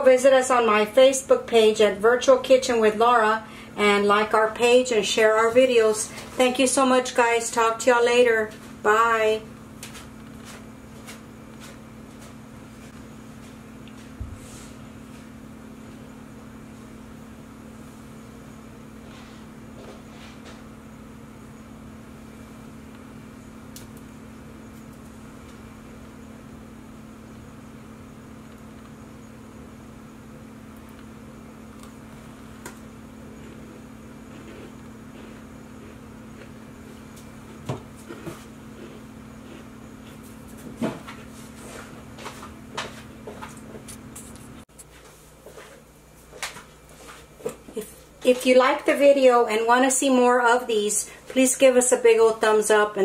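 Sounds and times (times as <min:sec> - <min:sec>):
appliance humming: 0:00.0 - 0:53.0.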